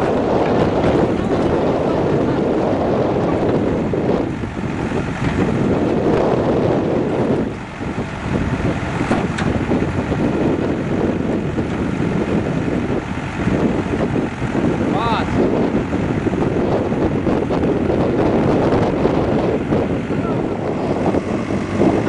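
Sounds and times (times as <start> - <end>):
diesel engine running: 0.0 - 22.0
wind buffeting microphone: 0.0 - 22.0.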